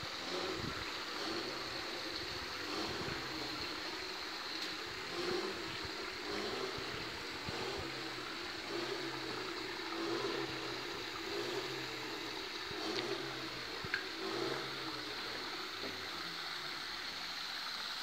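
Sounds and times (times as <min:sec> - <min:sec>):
low pulsing hum: 0:00.0 - 0:17.2
running water trickling: 0:00.0 - 0:18.0.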